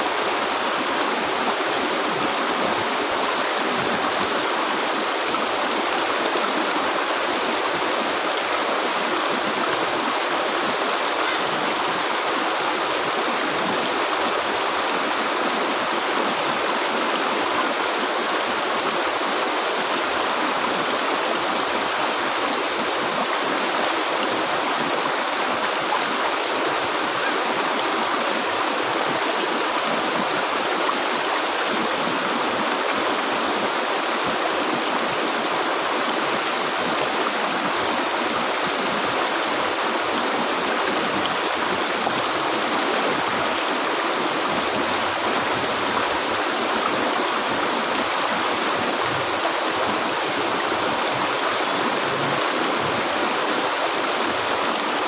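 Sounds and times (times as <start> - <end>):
river babbling over rocks: 0.0 - 55.0.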